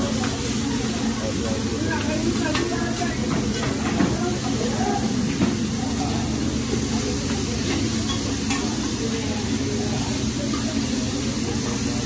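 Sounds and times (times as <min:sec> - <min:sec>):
meat sizzling on griddle: 0:00.0 - 0:12.0.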